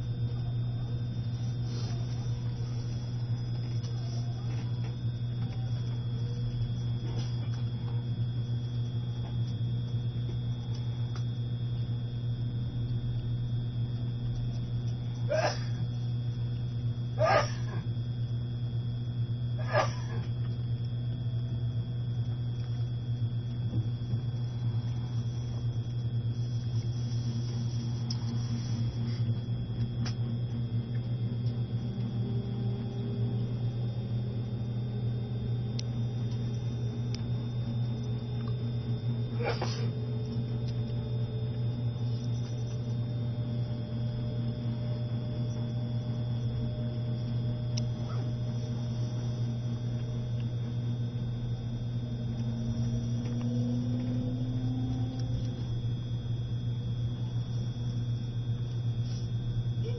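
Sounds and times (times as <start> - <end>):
motor whine: 0.0 - 59.9.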